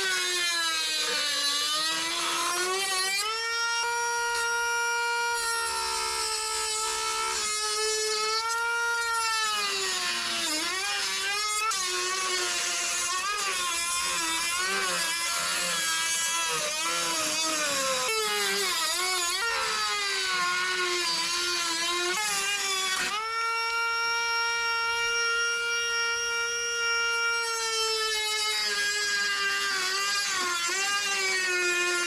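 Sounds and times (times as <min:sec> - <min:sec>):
power tool cutting plastic: 0:00.0 - 0:32.0.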